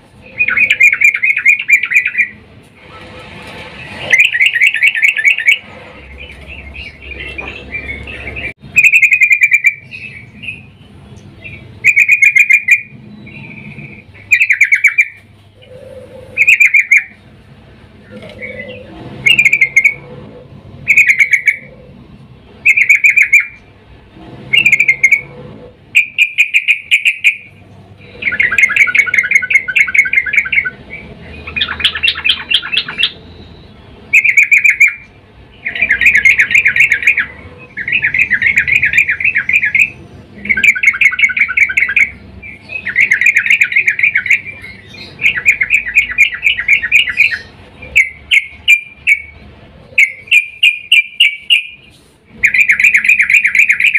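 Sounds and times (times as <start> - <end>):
bird chattering calls: 0.2 - 2.4, 3.8 - 10.8, 11.4 - 17.2, 18.0 - 22.0, 22.6 - 23.7, 24.5 - 53.9.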